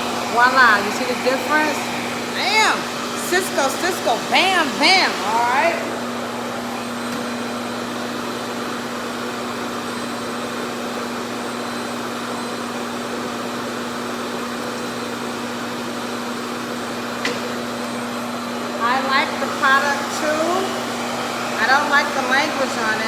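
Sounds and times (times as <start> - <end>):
hair dryer running: 0.0 - 23.0.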